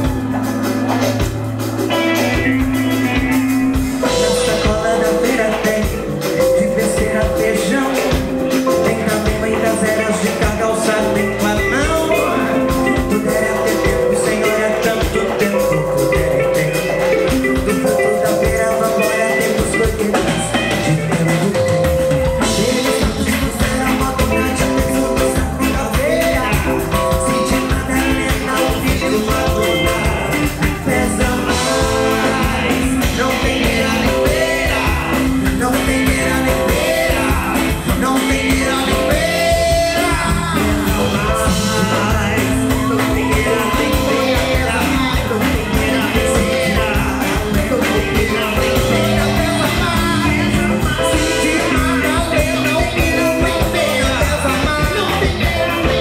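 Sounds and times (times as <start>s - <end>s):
live band playing: 0.0s - 56.0s
person singing: 0.0s - 56.0s.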